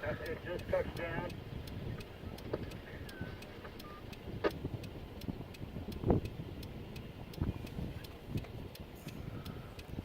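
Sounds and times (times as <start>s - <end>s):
fast regular ticking: 0.0s - 10.0s
storm wind buffeting: 0.0s - 10.0s.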